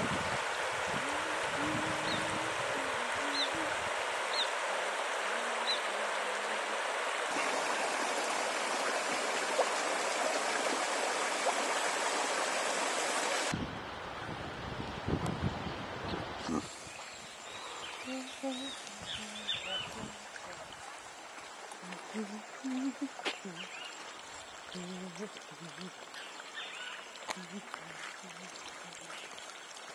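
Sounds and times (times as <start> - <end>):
stream running over stones: 0.0 - 13.6, 16.4 - 29.9.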